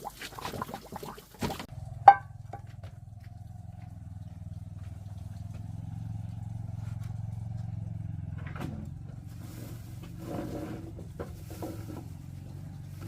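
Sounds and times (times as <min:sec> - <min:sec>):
small engine droning: 0:01.6 - 0:13.0.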